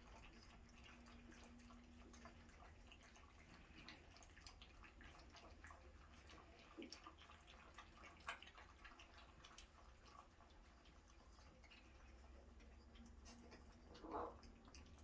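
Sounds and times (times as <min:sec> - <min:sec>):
puppies lapping milk: 0:00.0 - 0:15.0.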